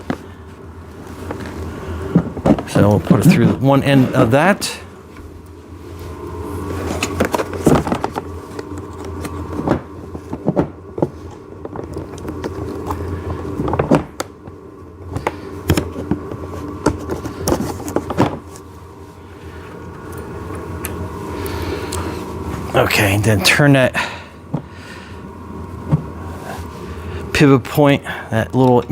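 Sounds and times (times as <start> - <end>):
low hum: 0.0 - 28.9.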